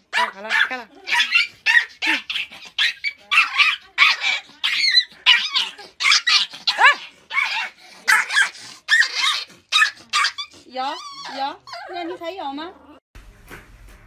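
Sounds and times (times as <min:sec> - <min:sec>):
dog barking and yipping: 0:00.1 - 0:12.0
dog yelping: 0:00.1 - 0:12.2.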